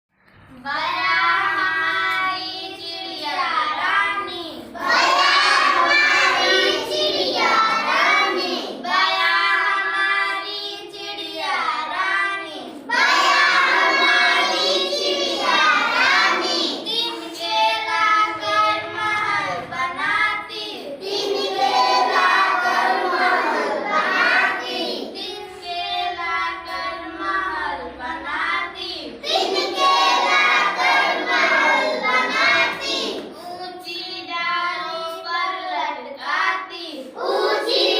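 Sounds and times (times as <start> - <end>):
child singing: 0.6 - 37.9.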